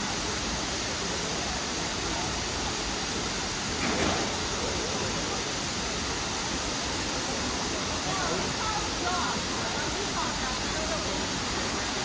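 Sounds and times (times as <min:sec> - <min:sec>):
waterfall rushing: 0:00.0 - 0:12.0
faint voices: 0:00.1 - 0:12.0.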